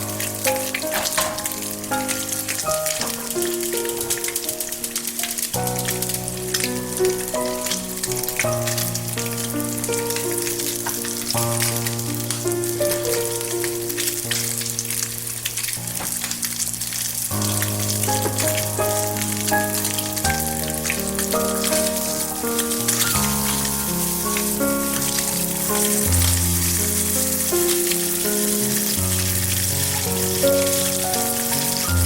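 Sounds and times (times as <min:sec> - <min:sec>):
background music: 0:00.0 - 0:32.0
food sizzling in a pan: 0:00.0 - 0:32.0.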